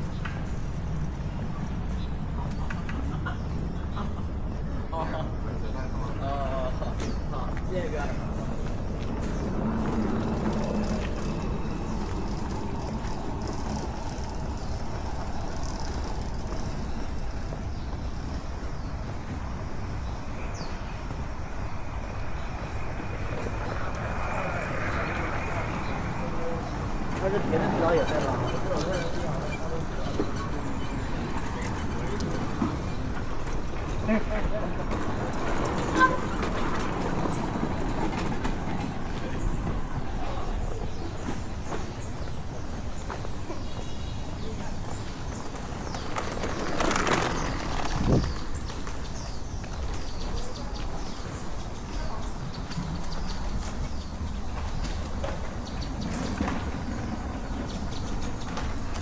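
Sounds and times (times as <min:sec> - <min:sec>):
low street rumble: 0:00.0 - 0:59.0.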